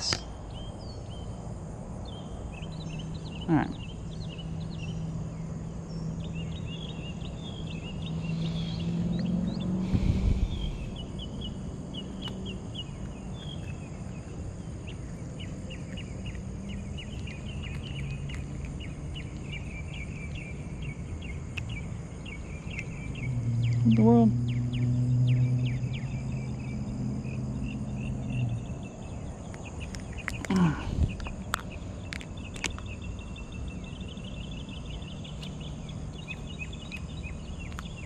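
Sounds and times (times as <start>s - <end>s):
insects trilling: 0.0s - 38.0s
low steady hum: 0.0s - 38.0s.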